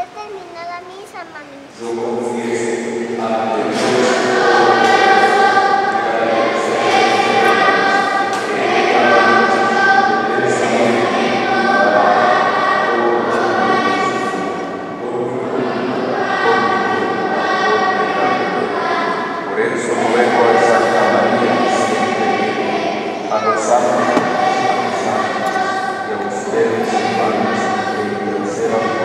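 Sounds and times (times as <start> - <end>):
group singing a hymn: 1.7 - 29.0.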